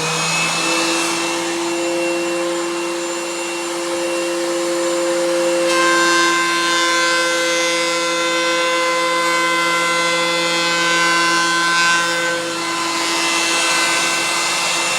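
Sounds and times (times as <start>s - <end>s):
electric planer motor whine: 0.0s - 14.9s.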